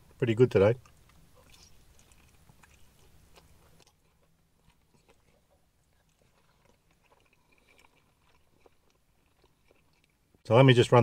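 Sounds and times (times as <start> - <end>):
man chewing: 0.8 - 10.4.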